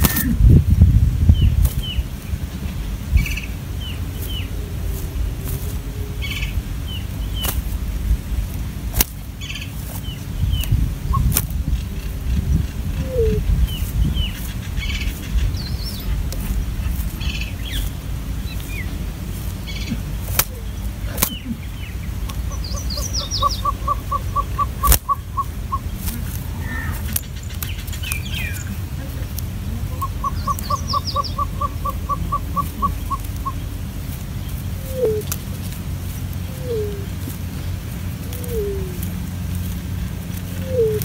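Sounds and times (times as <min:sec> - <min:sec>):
steady low rumble: 0:00.0 - 0:41.0
birds chirping: 0:01.2 - 0:41.0.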